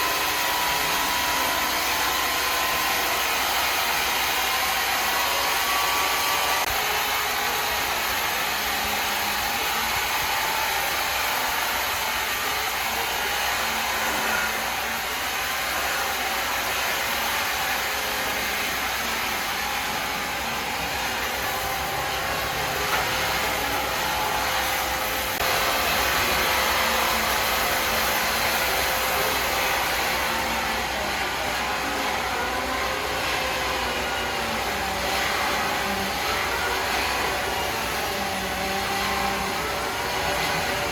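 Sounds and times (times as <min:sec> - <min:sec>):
sawmill machinery whirring: 0:00.0 - 0:40.9.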